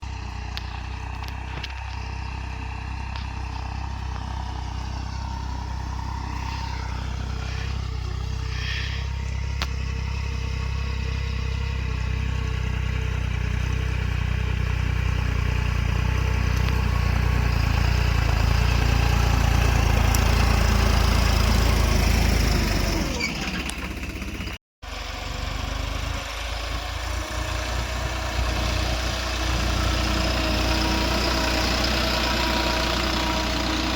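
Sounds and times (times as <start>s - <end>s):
tractor diesel engine rumbling: 0.0s - 33.9s.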